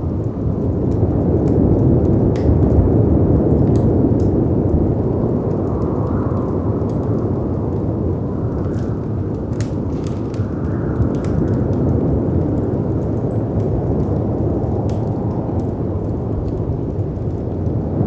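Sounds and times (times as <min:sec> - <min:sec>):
howling wind: 0:00.0 - 0:18.0
wood fire crackling: 0:00.0 - 0:18.0.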